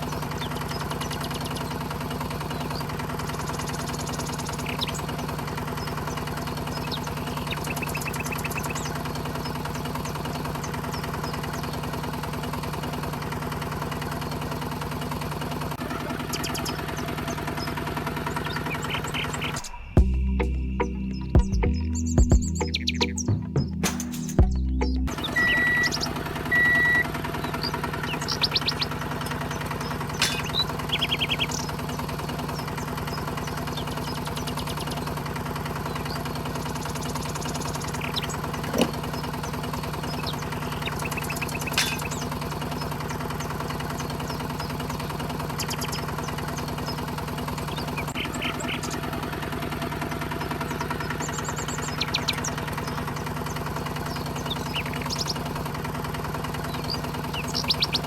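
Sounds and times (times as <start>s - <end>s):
small motor humming: 0.0s - 20.0s, 25.1s - 58.0s.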